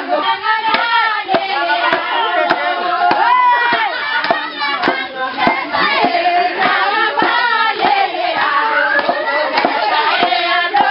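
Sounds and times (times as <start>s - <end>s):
women singing in unison: 0.0s - 10.9s.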